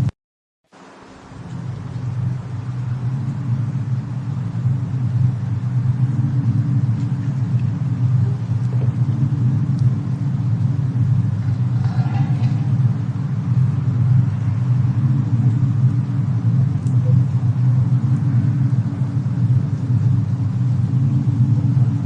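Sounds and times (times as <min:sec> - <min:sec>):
fire rumble: 0:00.7 - 0:22.0
fireplace crackles: 0:00.8 - 0:22.0
storm wind: 0:00.8 - 0:22.0.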